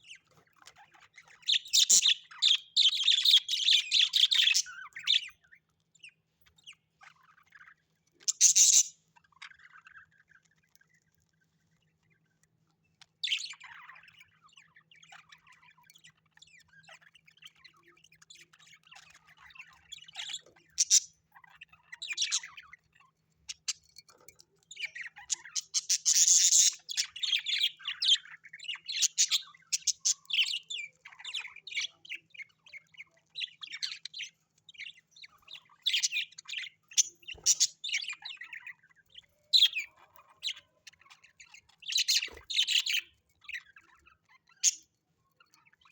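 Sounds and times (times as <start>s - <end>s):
cage birds chirping and squawking: 0.0s - 45.9s.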